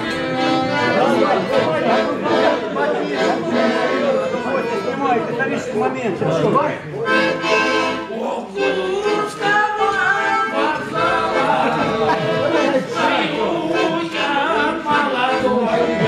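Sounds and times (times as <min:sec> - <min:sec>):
group singing together: 0:00.0 - 0:04.3, 0:07.4 - 0:16.0.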